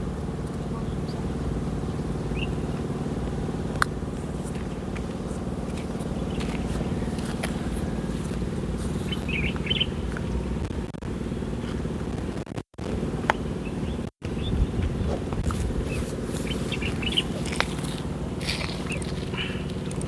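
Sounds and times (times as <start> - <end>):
birds chirping: 0.0 - 20.0
motor vehicle rumbling: 0.0 - 20.0.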